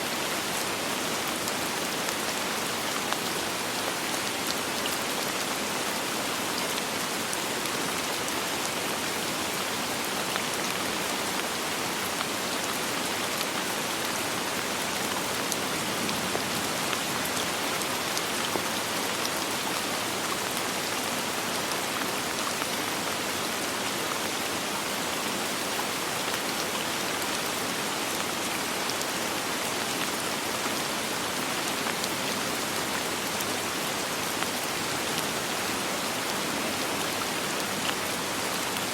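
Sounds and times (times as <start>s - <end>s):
soft rain falling: 0.0s - 38.9s.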